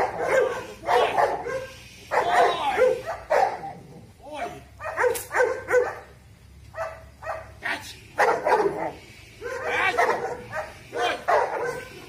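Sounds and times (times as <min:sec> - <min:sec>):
dog barking: 0:00.0 - 0:03.7, 0:04.8 - 0:07.6, 0:08.2 - 0:12.0.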